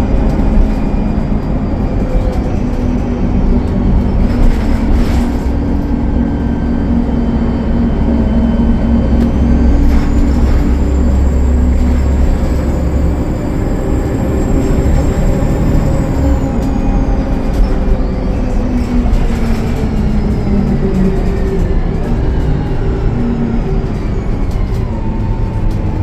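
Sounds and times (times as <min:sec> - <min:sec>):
diesel bus engine droning: 0:00.0 - 0:26.0.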